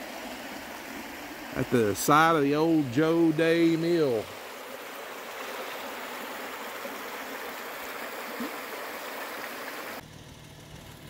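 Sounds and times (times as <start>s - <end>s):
creek water over rocks: 0.0s - 10.0s.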